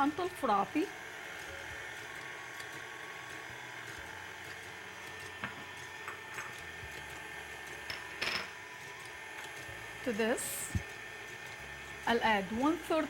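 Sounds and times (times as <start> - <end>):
whisk whirring in a bowl: 0.0 - 13.0.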